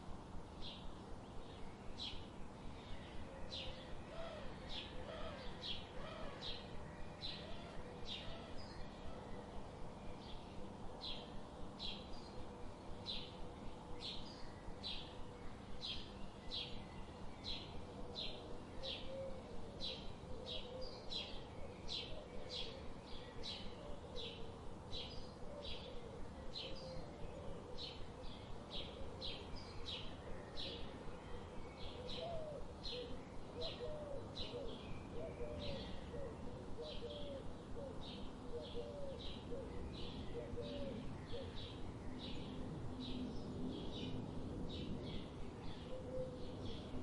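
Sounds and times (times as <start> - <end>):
low wavering bird calls: 2.1 - 43.2, 44.8 - 47.0.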